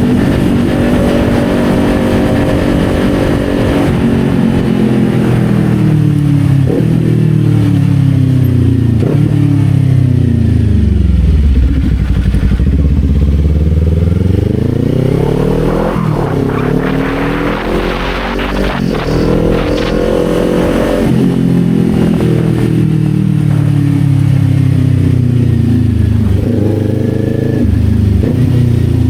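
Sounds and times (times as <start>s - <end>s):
gear changes: 0.0s - 29.0s
motorcycle engine revving: 0.0s - 29.0s.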